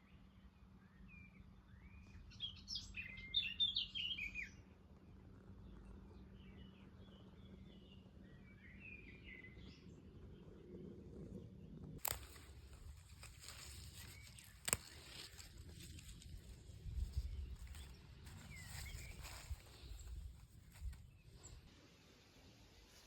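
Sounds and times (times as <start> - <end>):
faint outdoor background: 0.0 - 23.0
small birds chirping: 0.3 - 21.7.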